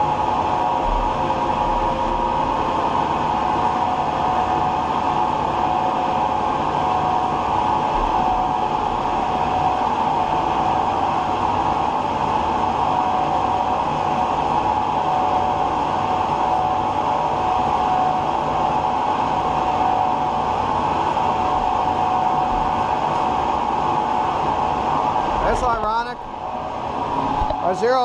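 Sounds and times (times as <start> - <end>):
lathe machine whine: 0.0 - 28.0.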